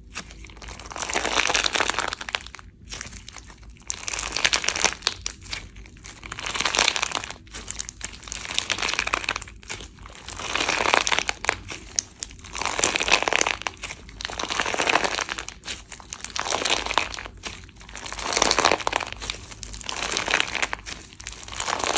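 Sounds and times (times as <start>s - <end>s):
slime crackling and popping: 0.0s - 21.9s.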